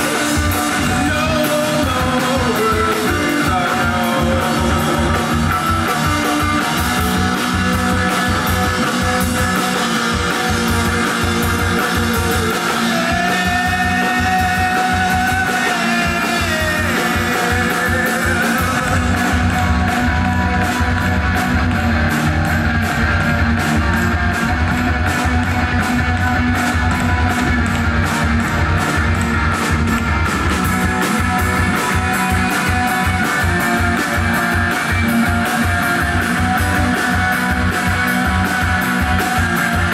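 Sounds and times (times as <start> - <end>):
distorted electric guitar: 0.0 - 39.9
drum kit beat: 0.0 - 39.9.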